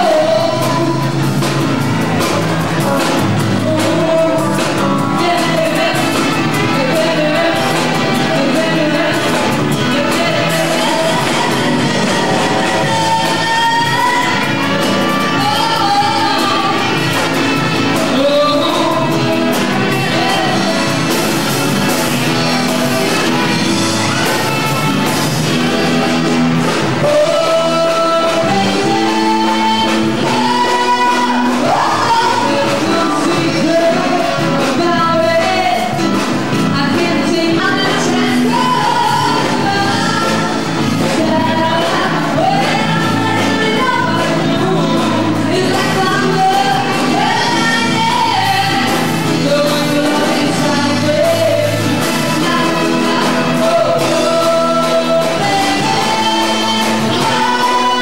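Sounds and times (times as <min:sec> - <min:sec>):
dance song with singer: 0:00.0 - 0:58.0.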